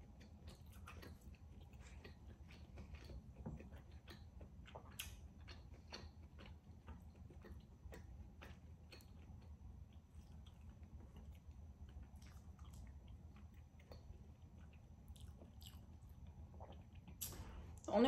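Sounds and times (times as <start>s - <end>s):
person chewing food: 0.0s - 17.8s.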